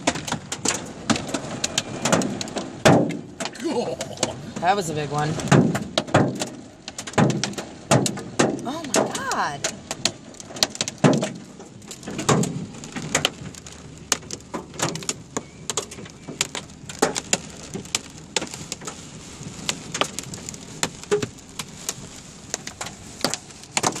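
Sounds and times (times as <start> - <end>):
hailstones striking a car: 0.0 - 24.0.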